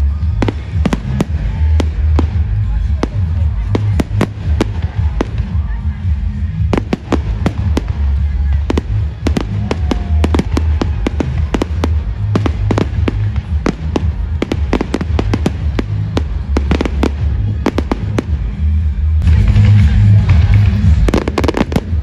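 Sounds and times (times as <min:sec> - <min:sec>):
fireworks bangs and crackles: 0:00.0 - 0:22.0
loud music with heavy bass: 0:00.0 - 0:22.0.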